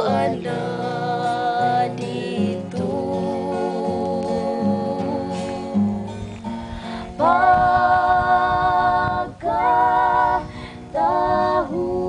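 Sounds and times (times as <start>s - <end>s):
acoustic guitar: 0.0s - 12.0s
girls singing together: 0.0s - 12.0s.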